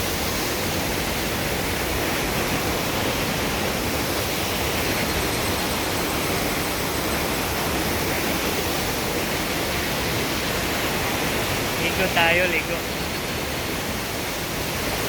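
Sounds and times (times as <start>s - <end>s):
rushing water roar: 0.0s - 15.0s.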